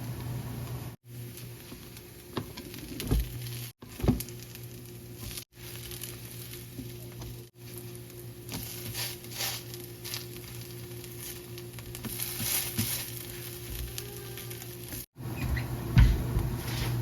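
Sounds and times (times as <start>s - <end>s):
food sizzling in hot oil: 0.6s - 15.1s.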